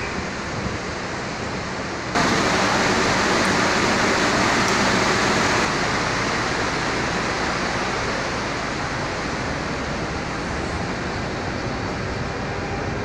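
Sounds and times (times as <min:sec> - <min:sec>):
electric train pulling out: 0:02.2 - 0:13.0.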